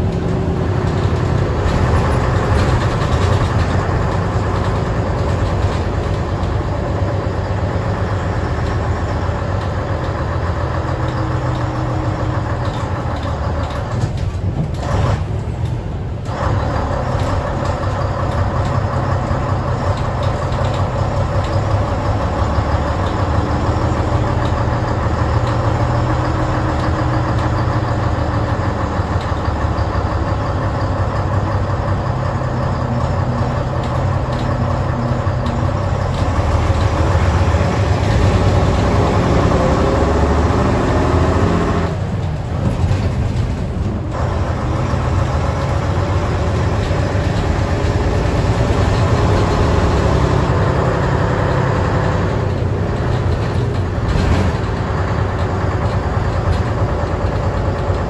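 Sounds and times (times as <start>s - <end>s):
bus diesel engine rumbling: 0.0s - 58.0s.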